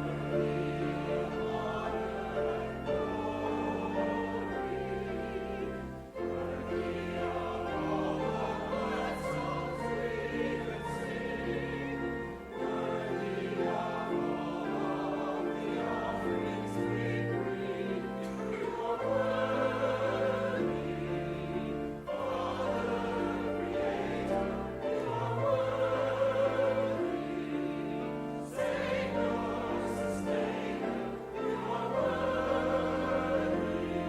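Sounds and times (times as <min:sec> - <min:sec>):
choir singing a hymn: 0:00.0 - 0:34.0.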